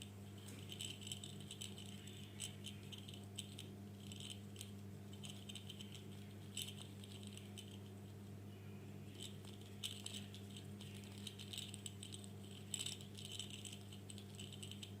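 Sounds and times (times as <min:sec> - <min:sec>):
toy ball rattling: 0:00.0 - 0:08.2, 0:09.1 - 0:15.0
low hum: 0:00.0 - 0:15.0.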